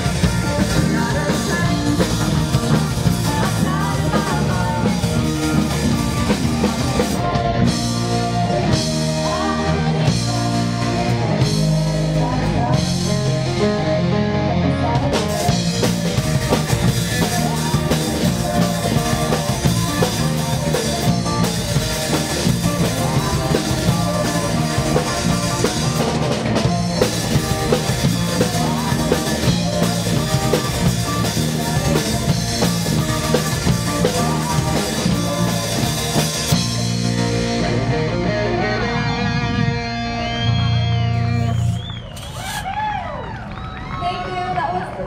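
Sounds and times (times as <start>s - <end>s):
drum kit and cymbals: 0.0s - 13.6s, 15.1s - 38.0s
person singing: 0.0s - 37.6s
keyboard: 0.0s - 42.2s
bass guitar: 0.0s - 43.9s
electric guitars: 0.0s - 45.0s.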